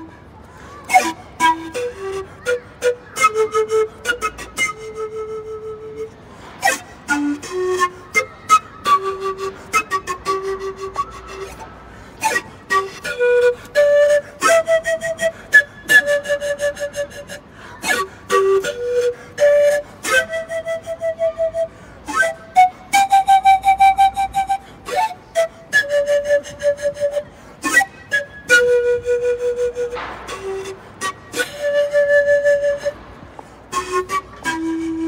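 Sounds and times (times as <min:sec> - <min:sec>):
pan flute slow melody: 0:00.0 - 0:35.0.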